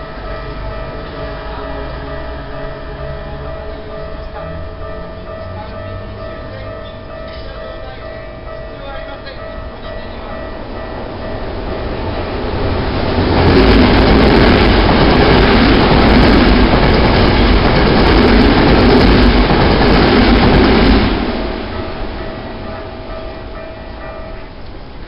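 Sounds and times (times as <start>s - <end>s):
level crossing warning bell: 0.0s - 25.0s
train wheels rumbling on rails: 0.0s - 25.0s.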